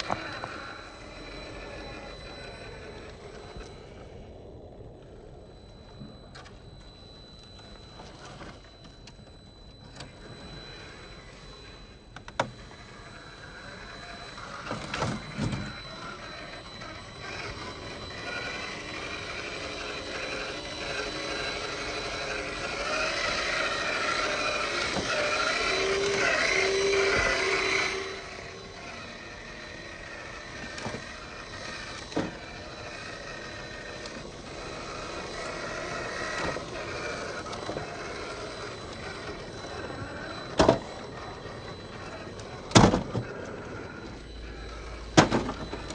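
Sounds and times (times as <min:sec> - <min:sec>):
electric motor whining: 0:00.0 - 0:45.9.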